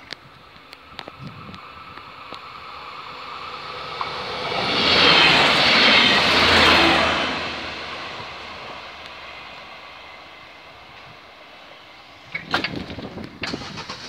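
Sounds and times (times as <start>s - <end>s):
train wheels rushing on rail: 0.8s - 13.9s.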